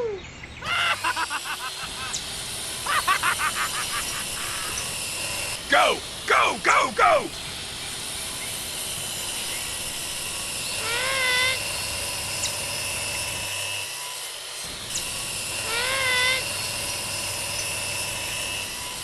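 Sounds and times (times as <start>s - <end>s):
small electric motor whirring: 0.9s - 6.7s, 7.3s - 19.0s.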